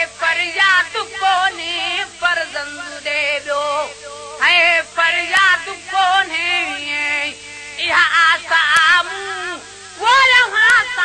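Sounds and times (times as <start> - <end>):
steady held drone note: 0.0 - 11.0.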